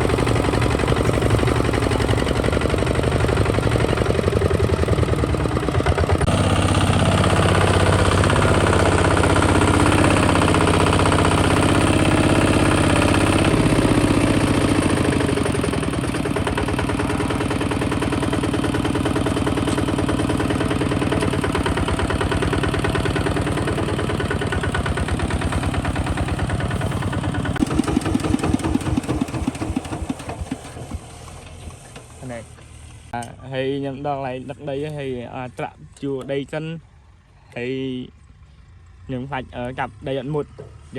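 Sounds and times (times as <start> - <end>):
diesel tractor engine putting: 0.0 - 36.7.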